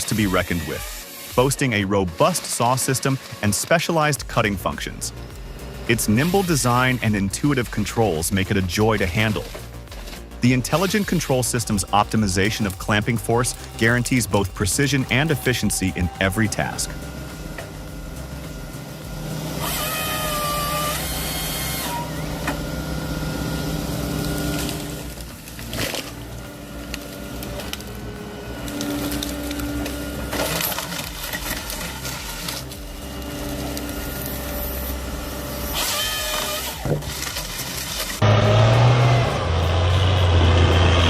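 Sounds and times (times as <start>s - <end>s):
hydraulic whines: 0.0s - 41.0s
diesel engine running under load: 4.2s - 41.0s.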